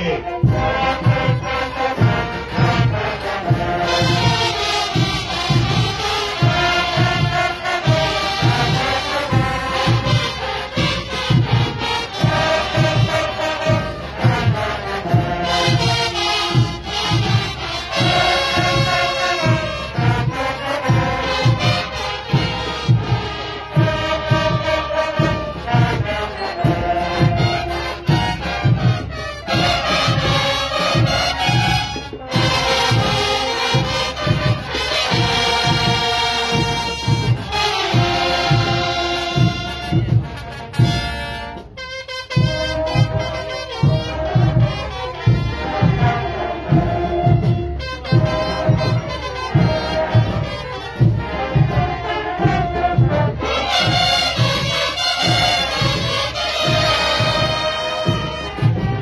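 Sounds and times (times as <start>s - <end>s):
brass instruments playing melody: 0.0s - 59.0s
marching drum beat: 0.0s - 59.0s.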